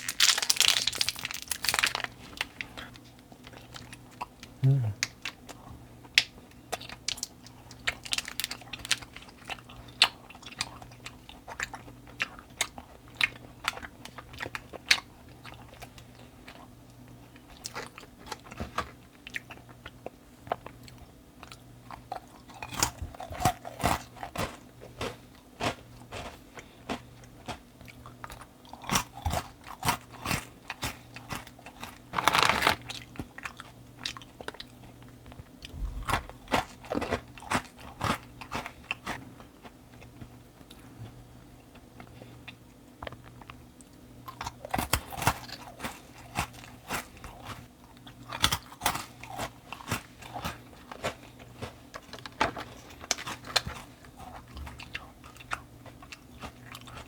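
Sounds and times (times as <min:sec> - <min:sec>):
crunching crisp snacks: 0:00.0 - 0:05.4, 0:06.2 - 0:16.6, 0:17.4 - 0:35.1, 0:44.2 - 0:57.0
faint low hum: 0:00.0 - 0:57.0.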